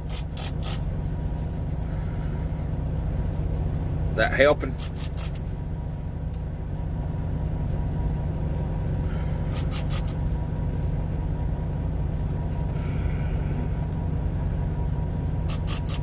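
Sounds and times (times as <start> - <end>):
diesel truck engine rumble: 0.0 - 16.0.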